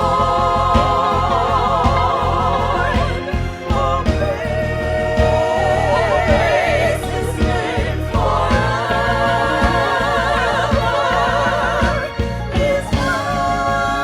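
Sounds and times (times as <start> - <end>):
band with bass and beat: 0.0 - 14.0
voices singing with vibrato: 0.0 - 14.0.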